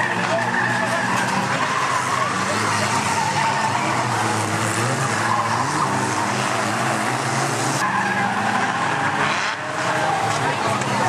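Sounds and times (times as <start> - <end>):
small racing car engines revving: 0.0 - 11.0.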